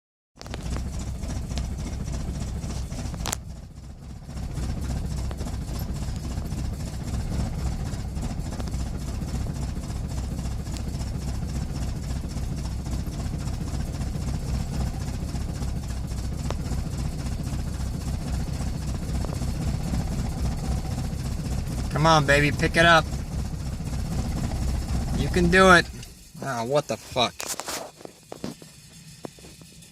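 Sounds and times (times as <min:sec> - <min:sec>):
engine idling roughly: 0:00.4 - 0:29.9.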